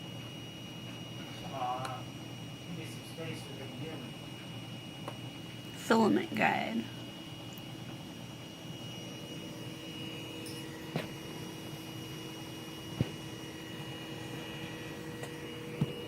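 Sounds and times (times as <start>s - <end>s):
printer cooling fans whirring: 0.0s - 16.0s.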